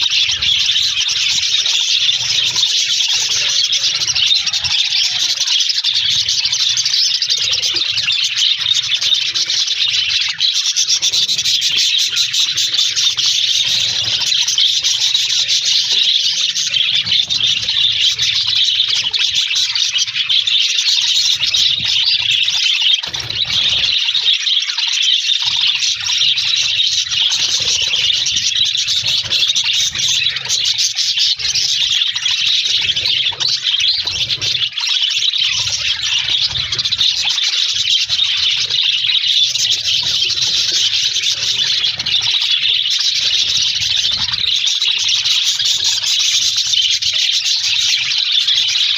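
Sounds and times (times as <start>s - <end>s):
budgerigars chattering: 0.0s - 48.9s.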